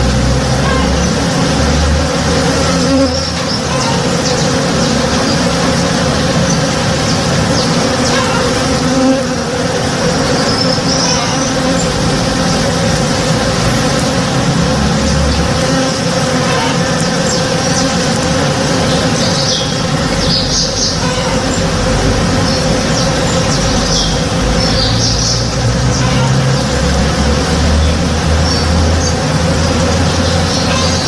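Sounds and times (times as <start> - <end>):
bees buzzing: 0.0 - 31.0.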